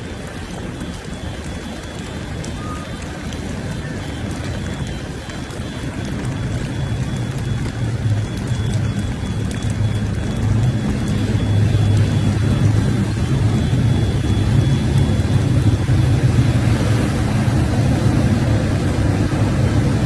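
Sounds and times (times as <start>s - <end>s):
constant wash of noise: 0.0s - 20.0s
low vehicle engine rumble: 0.0s - 20.0s.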